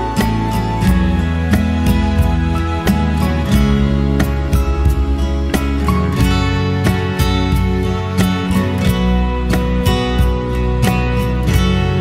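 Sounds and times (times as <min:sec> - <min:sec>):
background music with plucked strings: 0:00.0 - 0:12.0.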